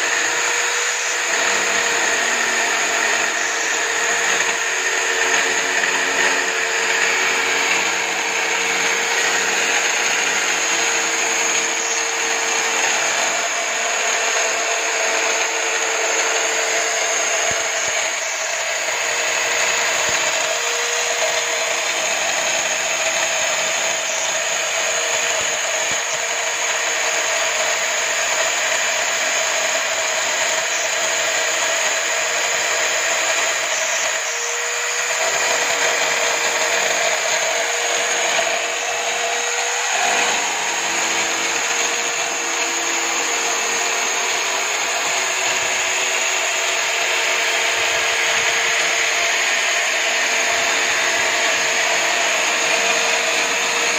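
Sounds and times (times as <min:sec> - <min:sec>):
electric drill whining: 0:00.0 - 0:53.9
sanding drum grinding wood: 0:00.0 - 0:53.9.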